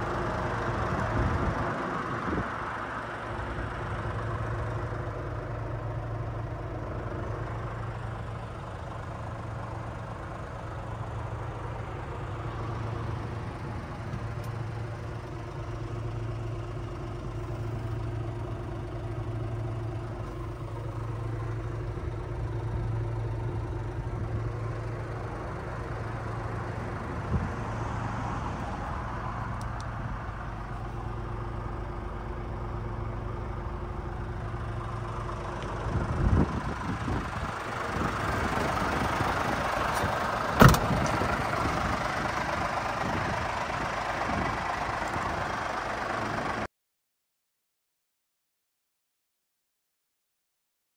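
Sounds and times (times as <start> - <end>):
diesel engine idling: 0.0 - 46.7.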